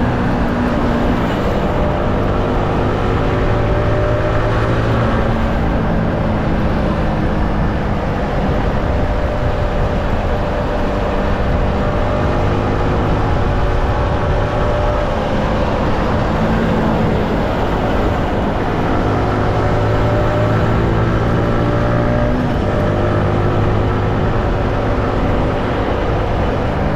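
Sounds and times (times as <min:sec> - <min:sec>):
wind rush on microphone: 0:00.0 - 0:26.9.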